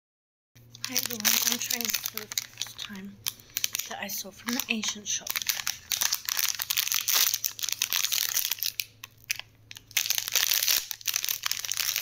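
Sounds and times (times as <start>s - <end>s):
plastic wrapper crinkling: 0.6s - 12.0s.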